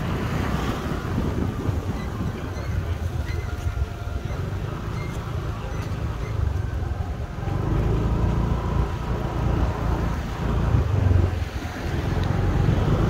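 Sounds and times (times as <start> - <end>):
road traffic rumble: 0.0 - 13.0
wind on microphone: 0.0 - 13.0.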